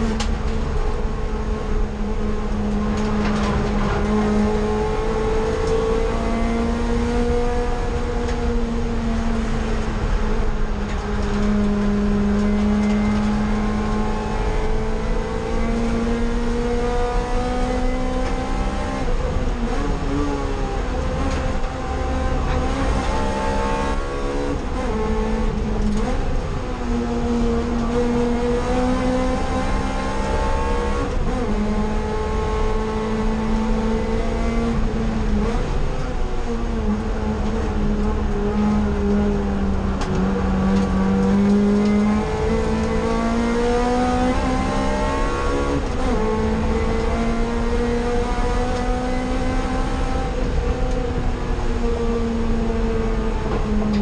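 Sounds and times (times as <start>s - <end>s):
car engine revving: 0.0s - 54.0s
tyre and road noise: 0.0s - 54.0s.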